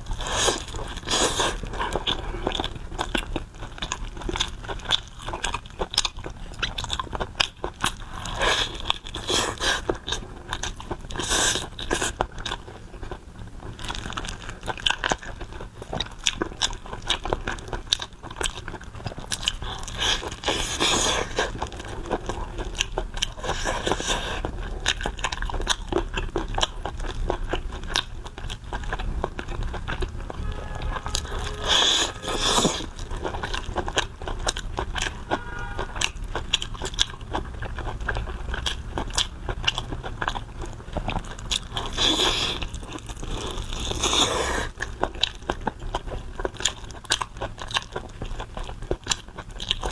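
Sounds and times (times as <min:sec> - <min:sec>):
person chewing crunchy food: 0:00.0 - 0:49.9.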